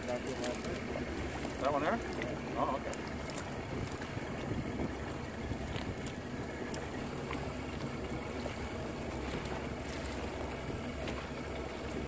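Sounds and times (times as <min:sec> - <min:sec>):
boat motor running: 0:00.0 - 0:12.0
water noise: 0:00.0 - 0:12.0
wind: 0:00.0 - 0:12.0.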